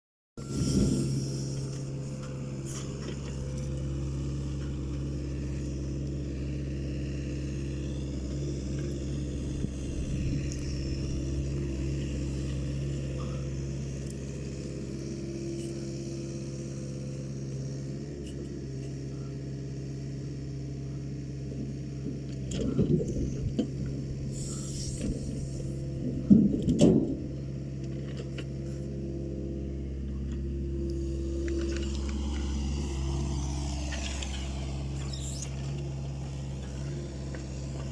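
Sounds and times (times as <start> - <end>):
excavator diesel engine running: 0.4 - 37.9.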